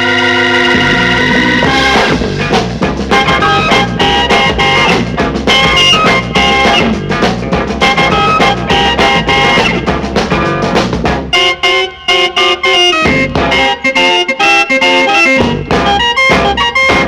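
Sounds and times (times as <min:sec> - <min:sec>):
beat-group instrumental music: 0:00.0 - 0:17.0.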